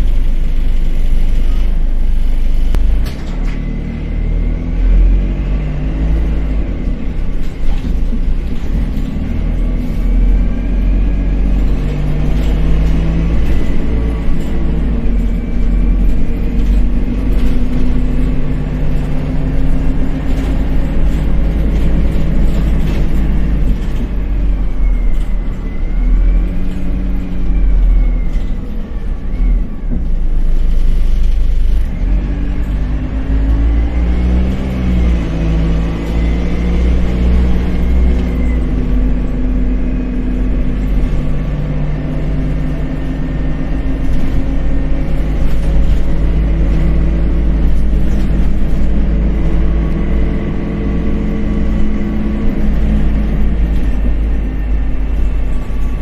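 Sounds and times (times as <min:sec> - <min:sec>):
bus diesel engine rumbling: 0:00.0 - 0:56.0.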